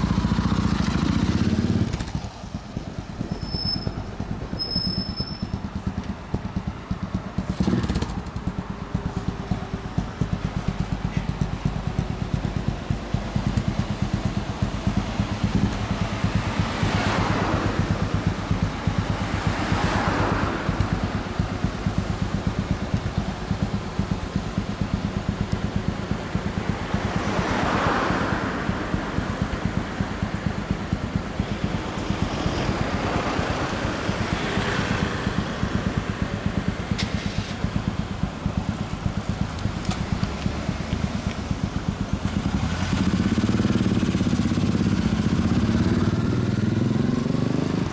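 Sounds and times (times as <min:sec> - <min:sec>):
cars passing: 0:00.0 - 0:47.9
motorcycle engine idling: 0:00.0 - 0:47.9.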